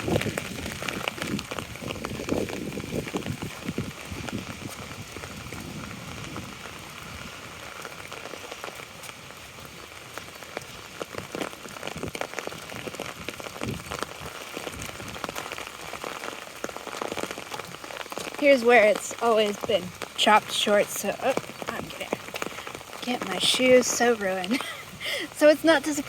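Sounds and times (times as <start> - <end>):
rain falling on an umbrella: 0.0 - 26.0.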